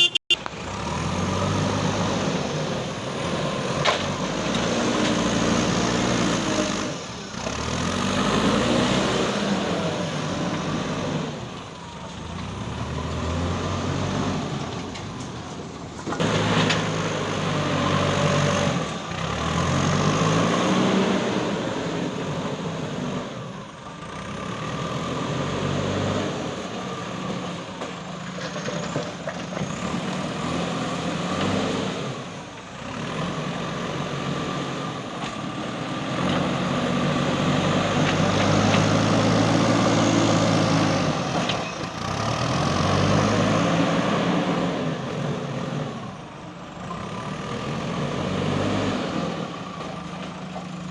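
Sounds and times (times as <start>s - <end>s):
backhoe diesel engine revving: 0.0s - 50.9s.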